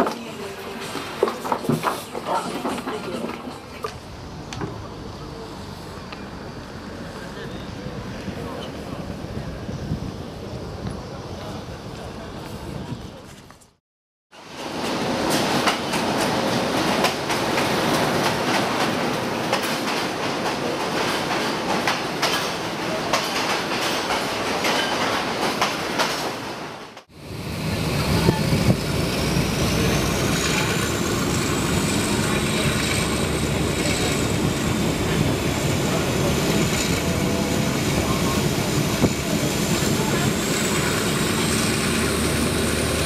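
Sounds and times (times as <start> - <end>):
train rumble and clickety-clack: 0.0 - 13.7, 14.4 - 43.0.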